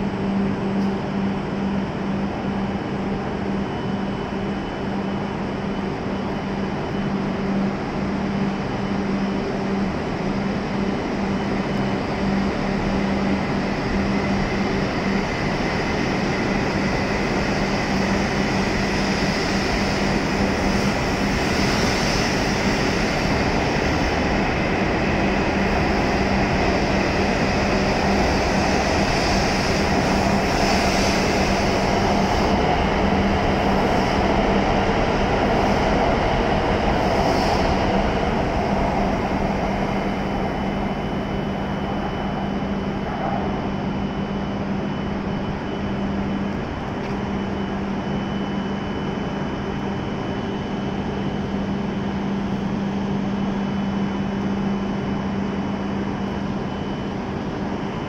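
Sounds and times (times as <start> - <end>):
high-speed train running noise: 0.0 - 58.0.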